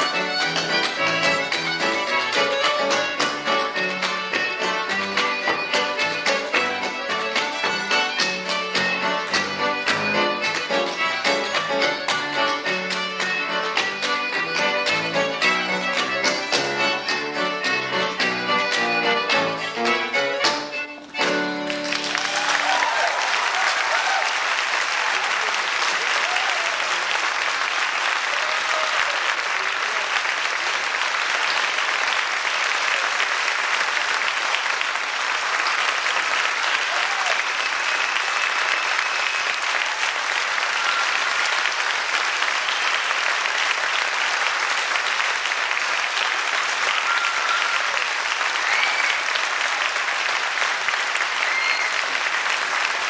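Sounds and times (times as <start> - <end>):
audience applauding: 0.0 - 53.0.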